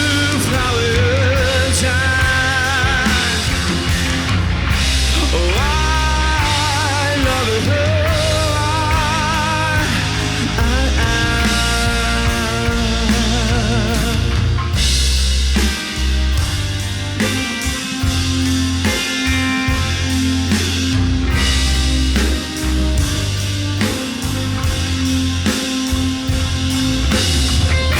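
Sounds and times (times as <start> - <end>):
lead guitar notes with vibrato: 0.0 - 27.9
rock band playing a ballad: 0.0 - 27.9.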